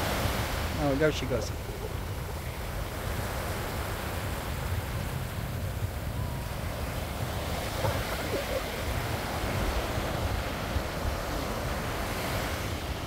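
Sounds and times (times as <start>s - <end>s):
small waves washing on sand: 0.0s - 13.0s
wind rumbling on microphone: 0.0s - 13.0s.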